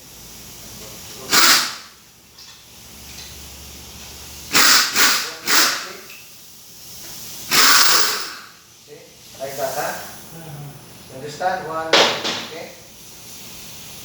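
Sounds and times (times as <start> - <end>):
air blow gun hissing: 0.0 - 10.3, 11.9 - 14.0.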